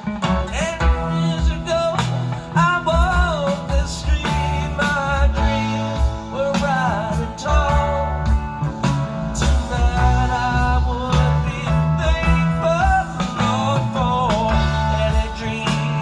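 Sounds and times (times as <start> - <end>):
live rock music over speakers: 0.0 - 16.0.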